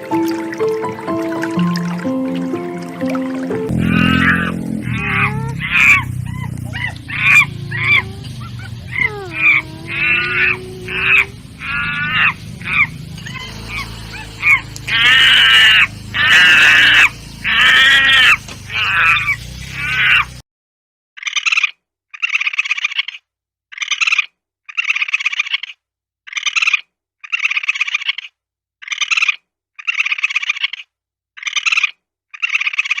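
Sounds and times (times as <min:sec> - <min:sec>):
high-pitched animal calls: 0:03.7 - 0:20.4, 0:21.2 - 0:33.0.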